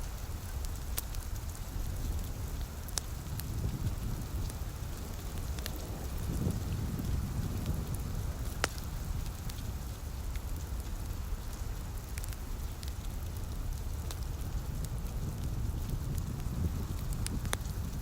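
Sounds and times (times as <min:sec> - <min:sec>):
light rain: 0:00.0 - 0:18.0
wood fire crackling: 0:00.0 - 0:18.0.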